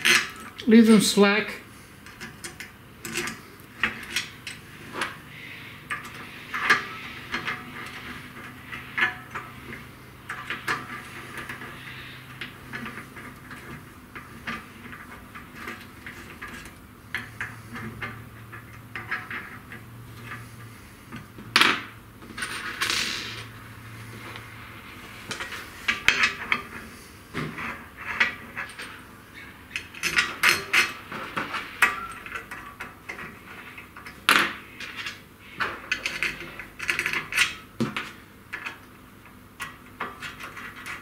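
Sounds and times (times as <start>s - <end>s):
clatter of metal parts: 0.0s - 0.7s, 2.0s - 24.4s, 25.1s - 41.0s.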